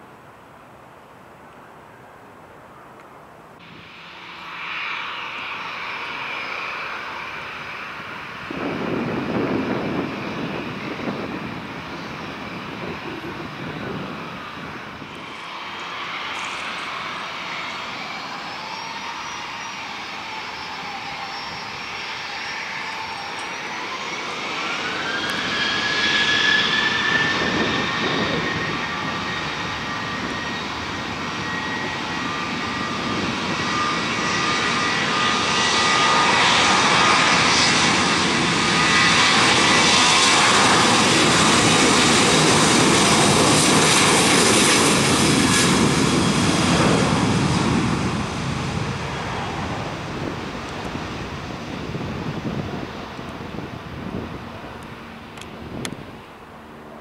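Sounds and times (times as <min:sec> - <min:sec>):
jet engine roar: 0:01.6 - 0:57.0
jet engines spooling up: 0:03.6 - 0:57.0.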